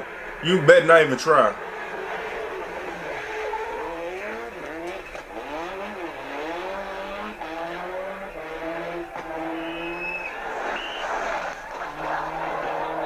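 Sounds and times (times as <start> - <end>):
tyre and road noise: 0.0 - 13.0
rally car engine revving: 1.6 - 13.0.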